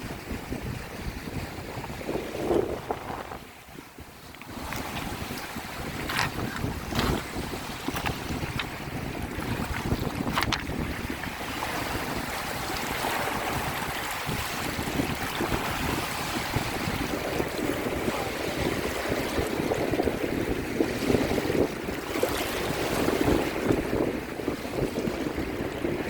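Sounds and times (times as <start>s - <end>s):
small waves lapping at shore: 0.0s - 26.0s
wind buffeting microphone: 0.0s - 26.0s.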